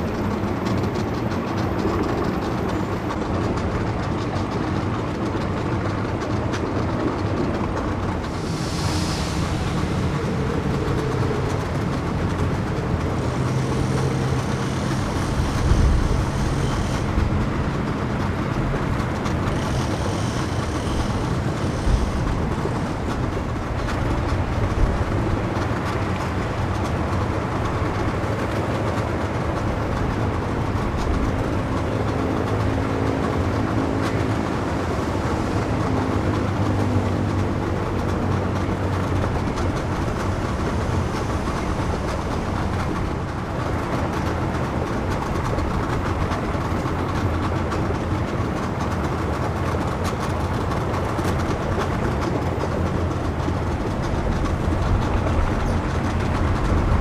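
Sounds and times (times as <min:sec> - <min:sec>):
low engine rumble: 0:00.0 - 0:57.0
pitched engine hum: 0:00.0 - 0:57.0.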